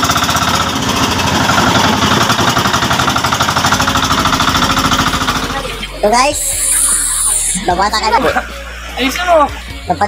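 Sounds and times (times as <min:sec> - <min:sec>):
boat engine running: 0:00.0 - 0:09.0.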